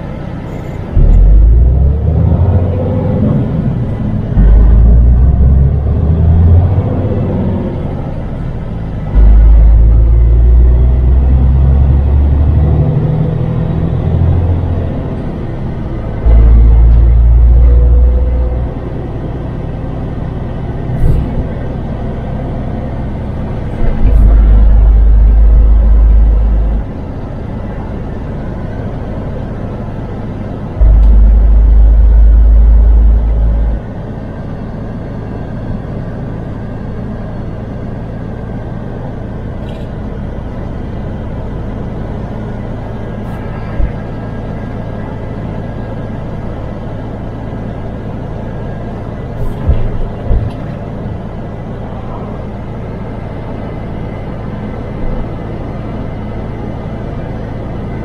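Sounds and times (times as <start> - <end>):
loud deep rumble: 0.0 - 58.0
truck diesel engine and road noise: 0.0 - 58.0.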